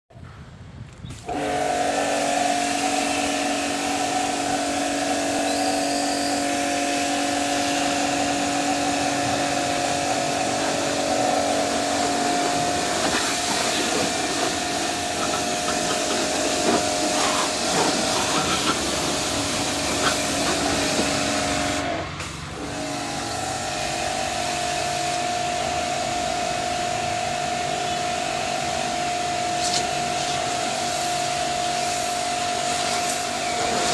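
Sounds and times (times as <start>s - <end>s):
pressure washer motor and pump: 1.0s - 33.9s
water jet hissing: 1.1s - 33.9s.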